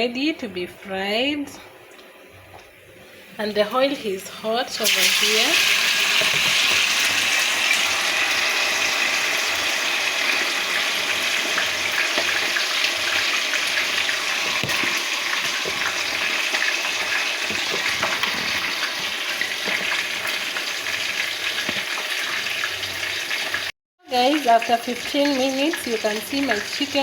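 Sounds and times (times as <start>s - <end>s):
chicken sizzling in hot oil: 4.8s - 27.0s.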